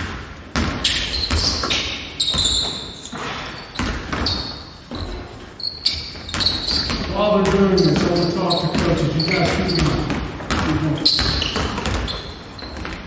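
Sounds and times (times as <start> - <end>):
basketball bouncing on wood floor: 0.0 - 13.0
sneaker squeaks: 0.0 - 13.0.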